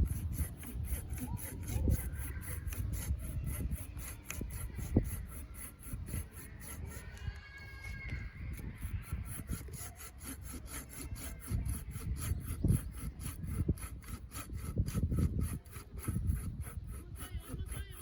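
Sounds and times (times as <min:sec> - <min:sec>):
hand saw cutting wood: 0:00.0 - 0:07.2, 0:08.5 - 0:18.0.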